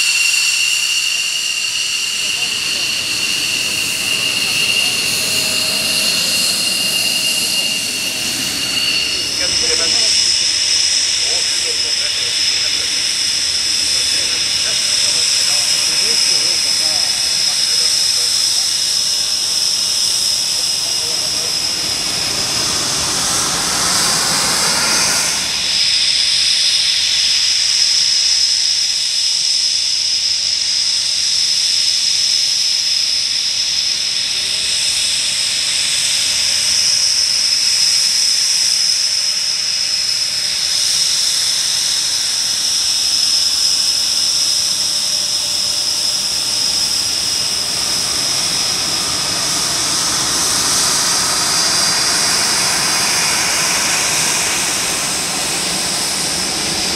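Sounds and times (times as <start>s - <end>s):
jet engines whining: 0.0s - 27.3s, 34.0s - 56.9s.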